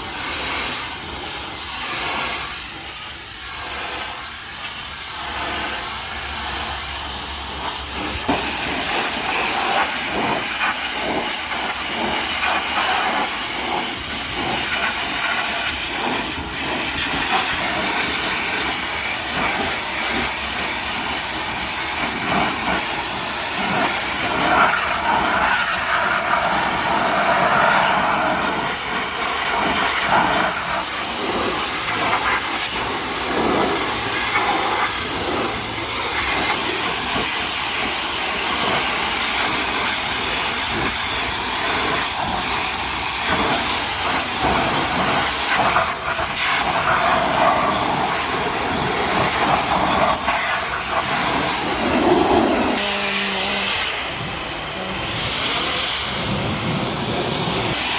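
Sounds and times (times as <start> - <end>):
pressure washer spray hissing: 0.0 - 57.9.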